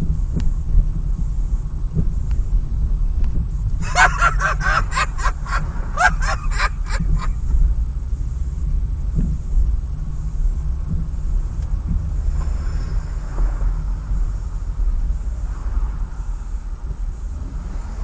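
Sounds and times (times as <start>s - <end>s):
car rumbling in traffic: 0.0s - 18.0s.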